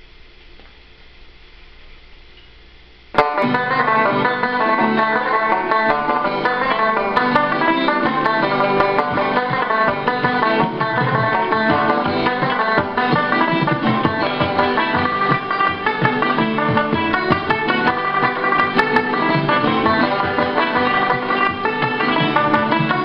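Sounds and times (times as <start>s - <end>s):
tenor banjo picking a polka: 3.2s - 23.0s.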